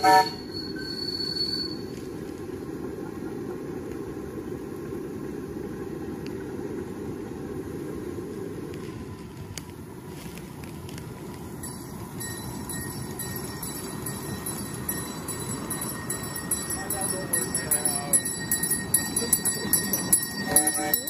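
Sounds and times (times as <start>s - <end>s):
miniature train rumbling on track: 0.0s - 21.0s.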